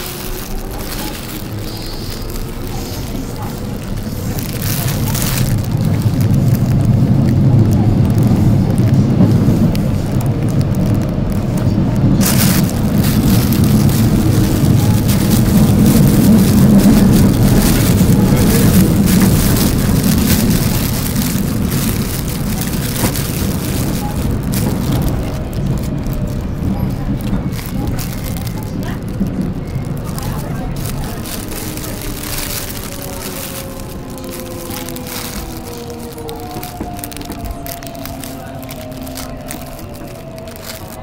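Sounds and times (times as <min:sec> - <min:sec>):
plastic bag crinkling: 0:00.0 - 0:41.0
subway train rumbling: 0:00.0 - 0:41.0.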